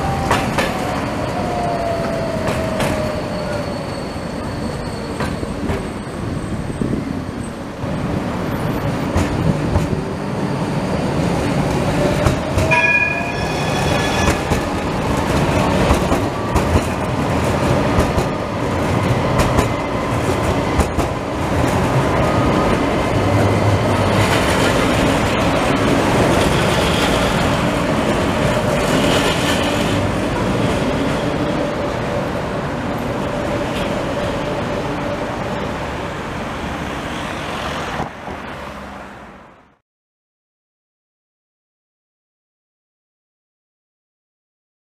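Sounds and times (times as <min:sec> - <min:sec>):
tram electric drive whine: 0:00.0 - 0:37.2
tram wheels rumbling on rails: 0:00.0 - 0:39.6.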